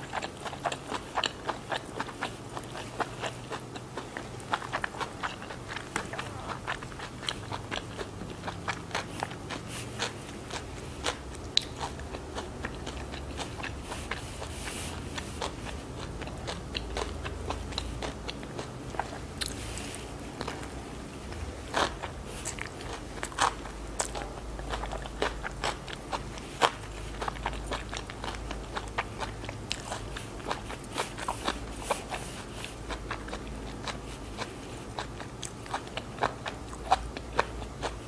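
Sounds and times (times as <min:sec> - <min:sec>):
crisp crunching while chewing: 0:00.0 - 0:38.0.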